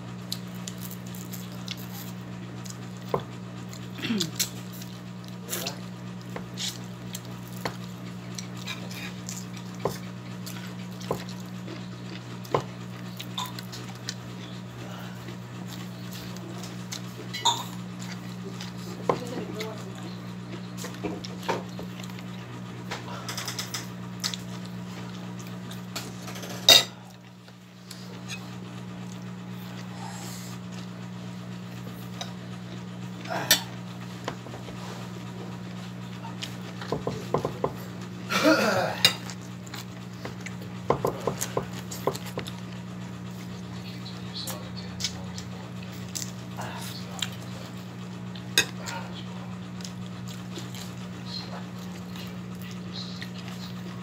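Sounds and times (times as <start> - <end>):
steady low hum: 0.0 - 54.0
chewing: 0.2 - 26.2, 31.6 - 38.0, 39.1 - 54.0.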